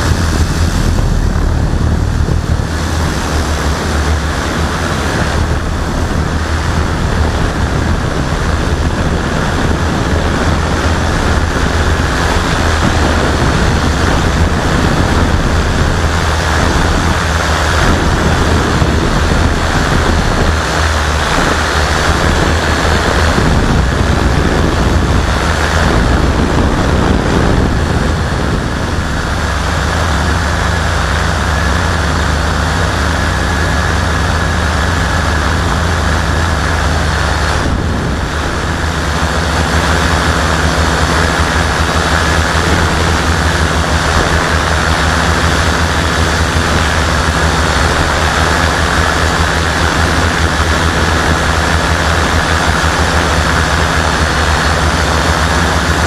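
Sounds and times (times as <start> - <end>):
quadcopter motors humming: 0.0 - 56.0.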